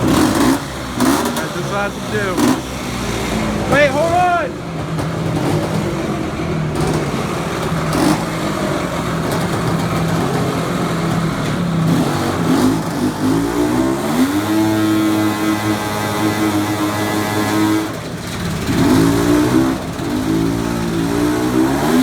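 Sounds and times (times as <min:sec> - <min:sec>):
background noise: 0:00.0 - 0:22.0
engine running and revving: 0:00.0 - 0:22.0.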